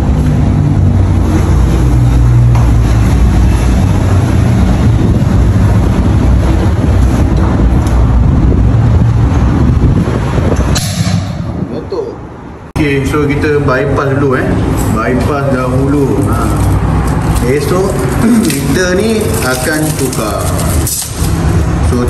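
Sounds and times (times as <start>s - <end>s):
engine running low rumble: 0.0s - 22.0s.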